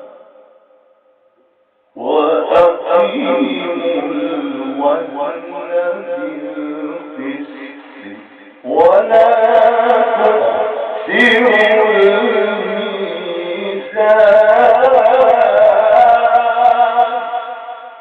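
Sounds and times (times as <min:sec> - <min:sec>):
man chanting melodically: 0:01.9 - 0:18.0.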